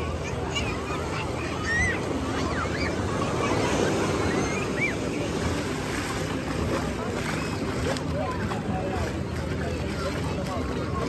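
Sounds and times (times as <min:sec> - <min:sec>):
faint distant voices: 0:00.0 - 0:11.0
waves washing on beach: 0:00.0 - 0:11.0.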